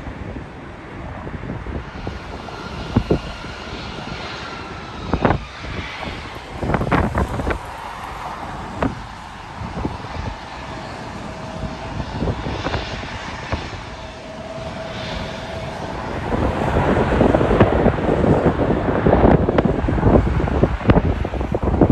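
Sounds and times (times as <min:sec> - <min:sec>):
jet engine noise: 0:00.0 - 0:21.9
wind buffeting microphone: 0:00.0 - 0:21.9.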